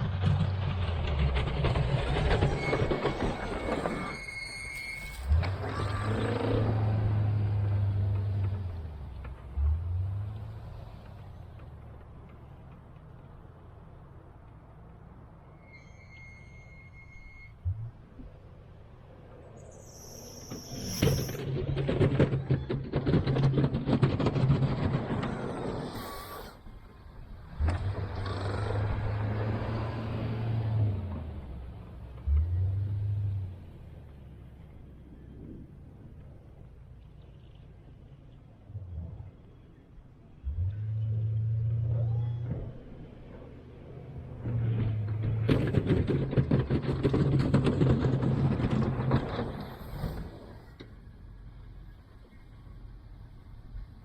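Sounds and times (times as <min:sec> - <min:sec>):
engine clattering and scraping: 0:00.0 - 0:54.0
plow truck running: 0:00.0 - 0:54.0.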